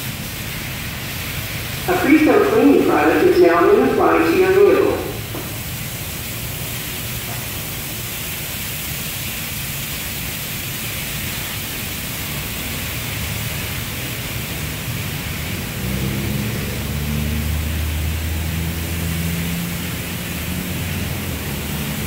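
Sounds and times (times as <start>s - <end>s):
high-pressure water spraying: 0.0s - 22.0s.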